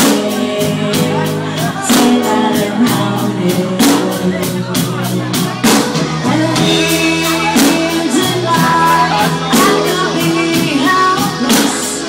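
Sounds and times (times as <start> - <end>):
drum and cymbal accents: 0.0 - 12.0
live rock band: 0.0 - 12.0
person singing: 0.0 - 12.0.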